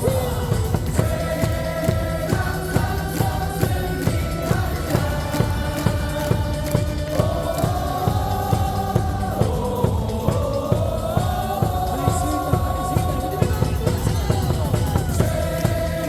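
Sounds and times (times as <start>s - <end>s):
amplified music: 0.0s - 16.0s
crowd singing a cheer song: 0.0s - 16.0s
steady drum beat: 0.0s - 16.0s.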